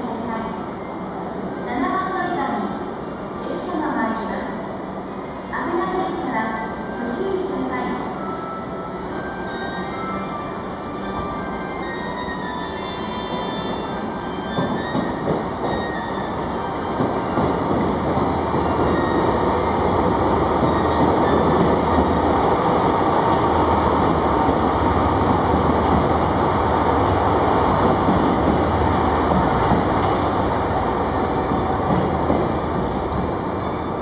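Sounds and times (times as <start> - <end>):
electric train rumbling on rails: 0.0 - 34.0.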